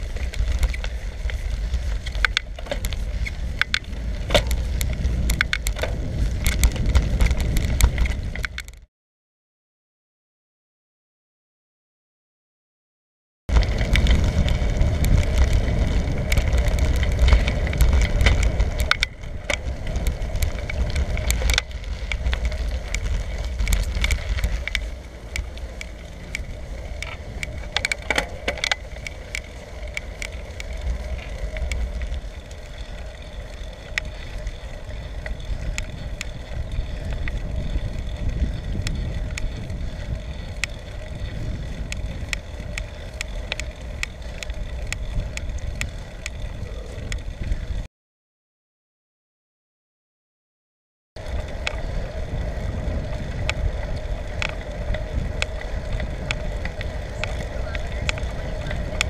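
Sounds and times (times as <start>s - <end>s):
small rattling clicks: 0.0s - 8.8s, 13.5s - 47.5s, 51.2s - 59.0s
wind buffeting microphone: 0.0s - 8.8s, 13.5s - 47.9s, 51.2s - 59.0s
tyre and road noise: 0.0s - 8.9s, 13.5s - 47.9s, 51.2s - 59.0s.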